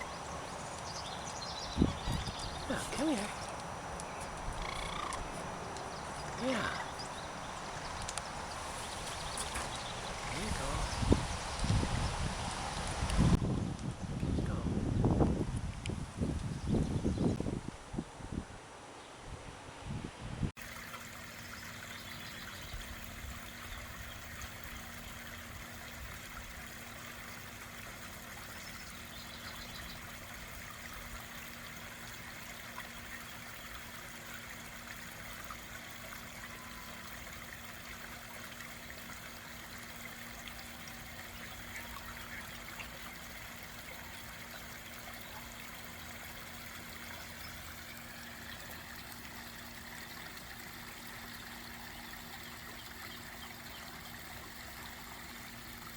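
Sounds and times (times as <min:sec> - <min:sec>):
waterfall trickling and splashing: 0:00.0 - 0:13.5, 0:20.5 - 0:55.9.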